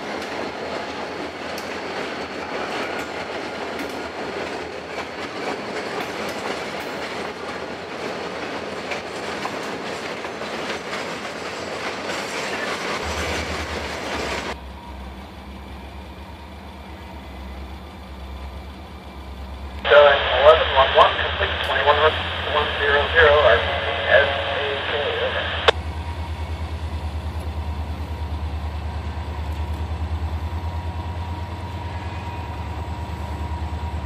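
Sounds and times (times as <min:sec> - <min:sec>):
freight train wheels on bridge: 0:00.0 - 0:34.0.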